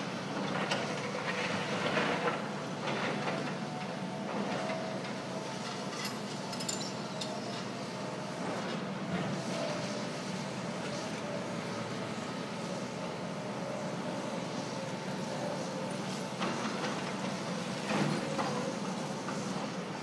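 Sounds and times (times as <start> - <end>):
distant diesel excavator engine: 0.0 - 20.0.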